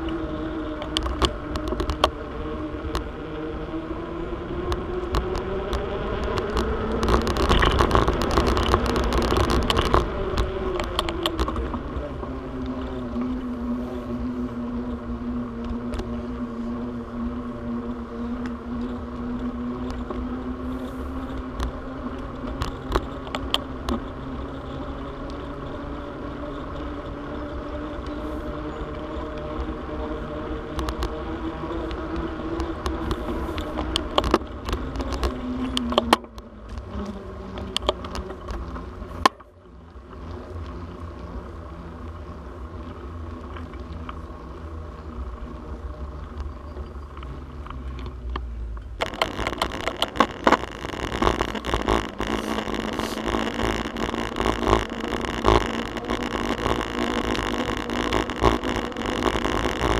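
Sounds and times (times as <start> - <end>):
small clicks: 0.0 - 2.2, 4.6 - 12.0, 17.9 - 29.7, 30.7 - 59.9
bicycle humming whine: 0.0 - 59.9
wind rumble on microphone: 0.0 - 59.9.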